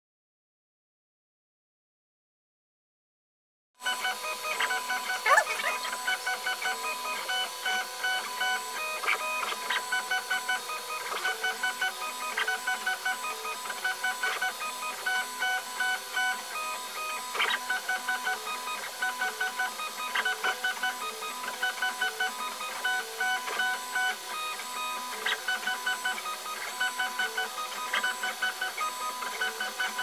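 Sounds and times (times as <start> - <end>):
stepper motors whining: 3.9 - 30.0.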